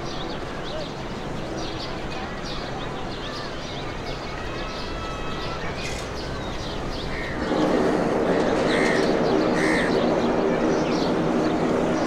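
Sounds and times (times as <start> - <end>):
birds chirping and calling: 0.0 - 12.0
steady background noise: 0.0 - 12.0.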